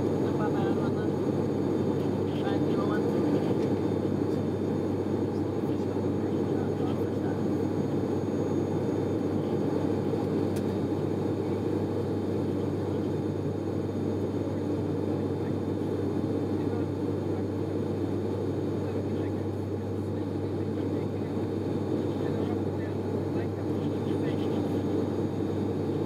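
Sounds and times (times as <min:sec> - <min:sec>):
constant low hum: 0:00.0 - 0:26.0
turboprop engines droning: 0:00.0 - 0:26.0.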